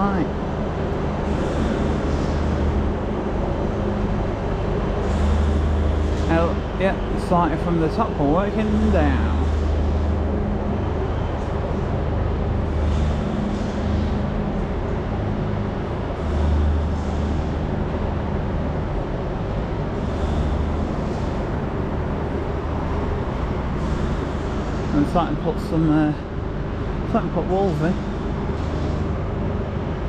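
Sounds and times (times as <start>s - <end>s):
road traffic: 0.0s - 30.0s
vehicles passing: 0.0s - 30.0s.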